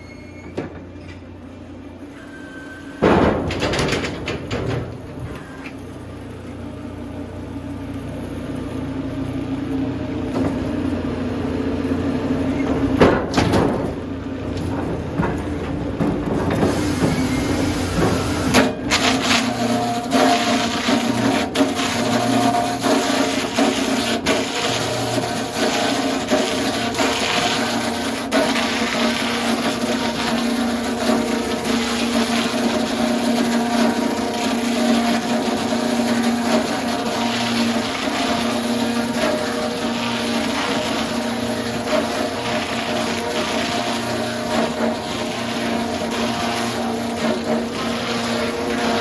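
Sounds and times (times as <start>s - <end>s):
sawmill machinery humming: 0.0s - 49.0s.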